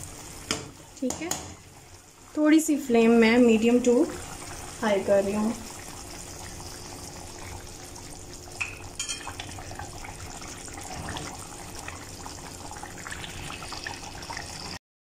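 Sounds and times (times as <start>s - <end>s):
gravy bubbling in a pan: 0.0s - 14.8s.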